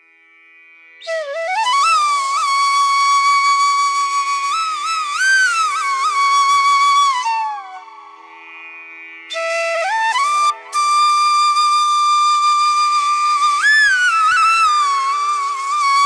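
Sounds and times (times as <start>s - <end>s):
flute with sliding ornamented notes: 1.0s - 8.7s, 9.3s - 16.0s.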